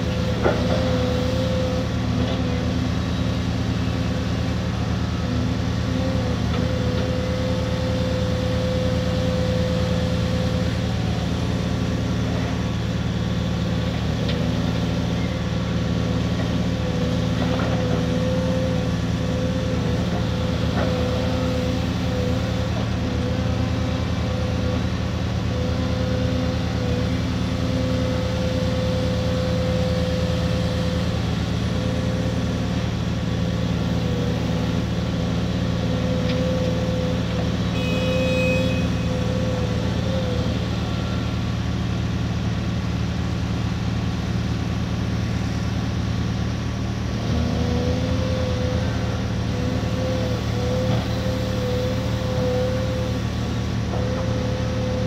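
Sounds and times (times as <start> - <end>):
diesel engines humming: 0.0 - 55.0
excavator hydraulic whine: 0.0 - 55.0.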